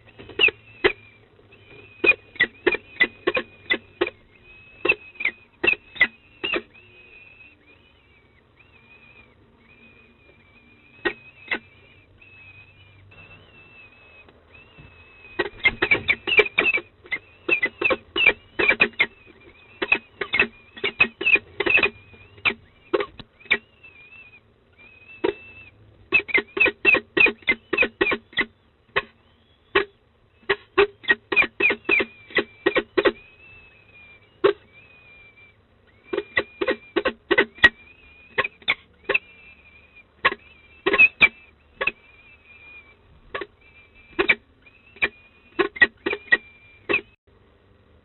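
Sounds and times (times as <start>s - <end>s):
falcon chicks cheeping: 0.0s - 48.0s.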